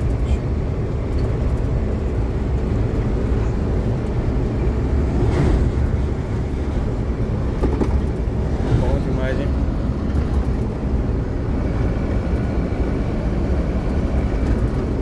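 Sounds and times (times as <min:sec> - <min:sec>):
vehicle driving on highway: 0:00.0 - 0:15.0.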